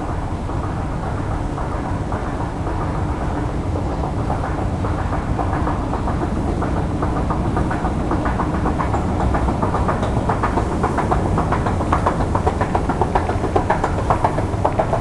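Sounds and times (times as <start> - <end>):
escalator rumbling and clacking: 0.0 - 15.0.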